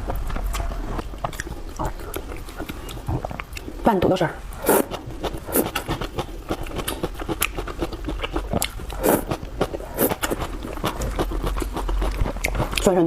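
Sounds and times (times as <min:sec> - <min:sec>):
chewing crunches: 0:00.0 - 0:03.8, 0:04.6 - 0:13.0.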